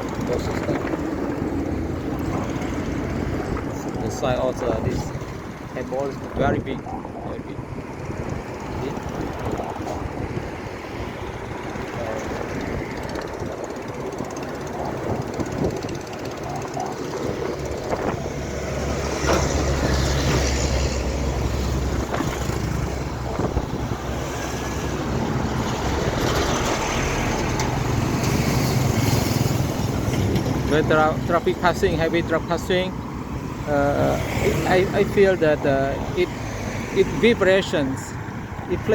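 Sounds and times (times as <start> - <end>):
heavy trucks passing: 0.0 - 38.9.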